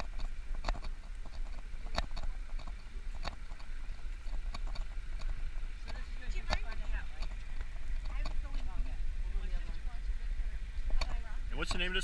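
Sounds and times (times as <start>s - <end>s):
footsteps on a path: 0.0s - 11.2s
wind buffeting microphone: 0.0s - 12.0s.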